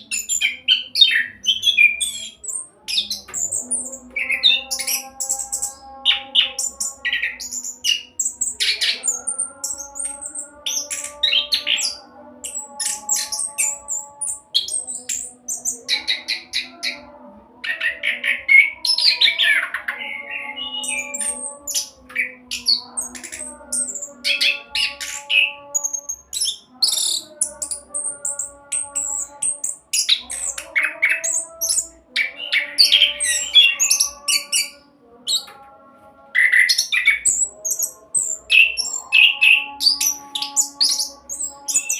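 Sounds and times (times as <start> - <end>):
thrush singing: 0.0 - 41.9.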